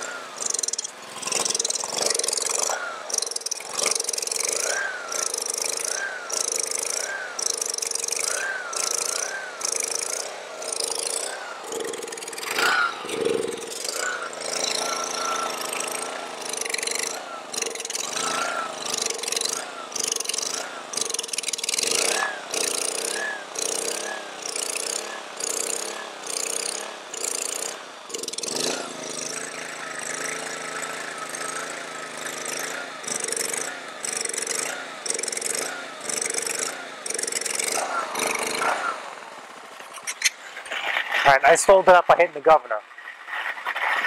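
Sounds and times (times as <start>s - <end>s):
pressure washer engine hunting: 0.0s - 44.0s.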